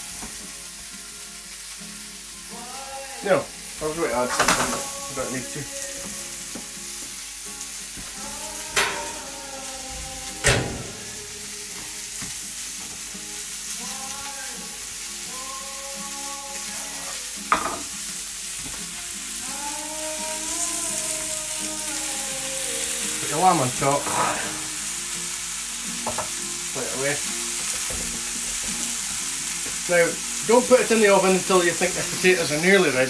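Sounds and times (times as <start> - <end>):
meat and vegetables sizzling: 0.0 - 33.0.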